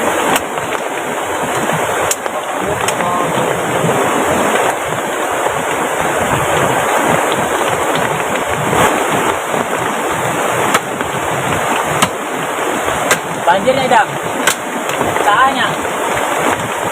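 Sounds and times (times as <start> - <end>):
heavy rain: 0.0 - 16.9
river rushing: 0.0 - 16.9.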